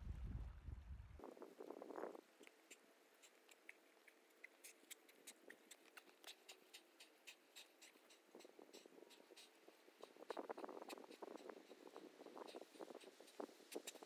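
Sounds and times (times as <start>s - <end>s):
faint ticks: 1.9s - 14.0s.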